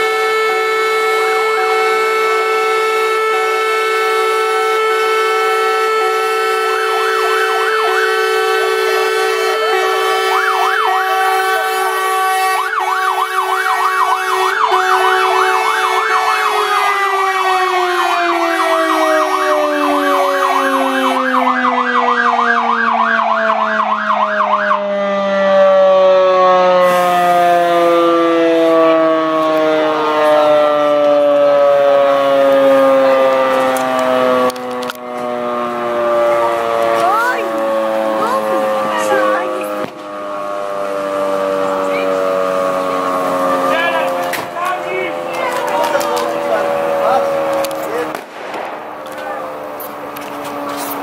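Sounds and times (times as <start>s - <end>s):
siren yelping warble: 0.0s - 48.2s, 49.0s - 51.0s
siren wail: 0.0s - 51.0s.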